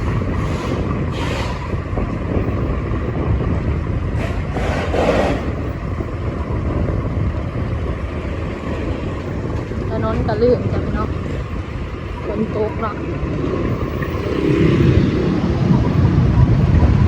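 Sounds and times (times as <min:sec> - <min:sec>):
vehicle rumbling on wet road: 0:00.0 - 0:17.0.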